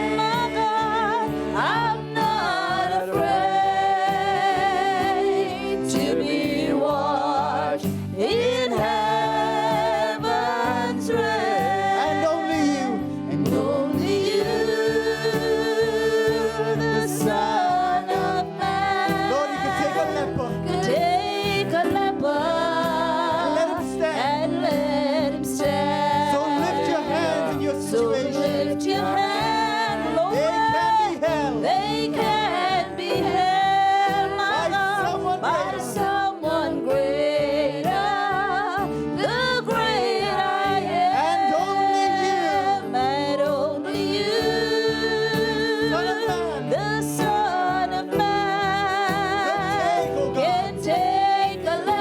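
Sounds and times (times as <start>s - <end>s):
gospel accompaniment with steady beat: 0.0s - 52.0s.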